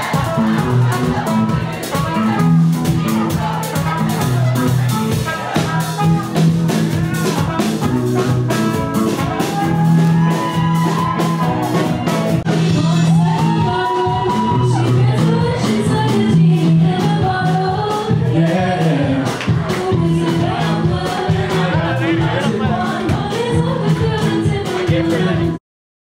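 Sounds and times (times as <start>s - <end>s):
bass line: 0.0s - 25.6s
drums: 0.0s - 25.6s
person singing: 0.0s - 25.6s.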